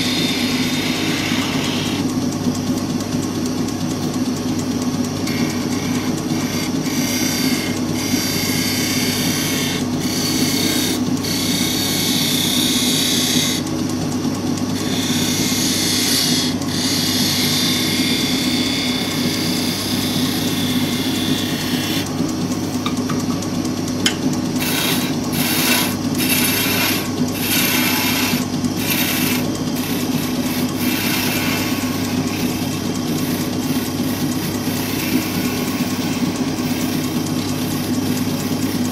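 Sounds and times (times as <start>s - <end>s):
turning tool cutting wood hiss: 0.0s - 2.2s, 5.0s - 22.8s, 24.5s - 38.9s
wood lathe humming: 0.0s - 38.9s.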